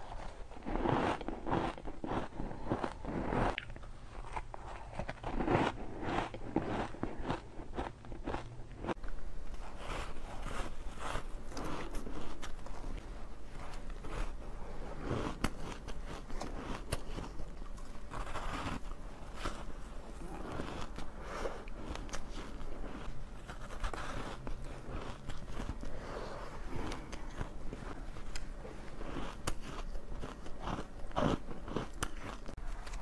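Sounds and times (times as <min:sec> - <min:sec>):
chewing crunchy ice: 0:00.0 - 0:09.0, 0:13.7 - 0:33.0.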